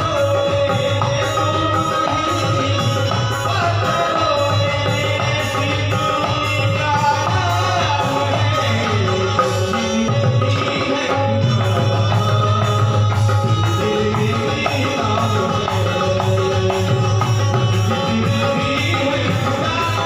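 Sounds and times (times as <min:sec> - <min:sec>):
instrumental music with drum rhythm: 0:00.0 - 0:20.0.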